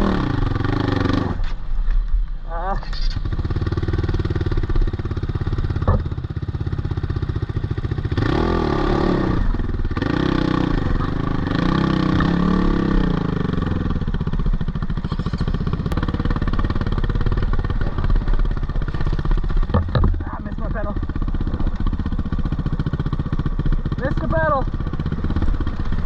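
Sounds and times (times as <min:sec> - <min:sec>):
dirt bike engine revving: 0:00.0 - 0:01.4, 0:03.2 - 0:26.0.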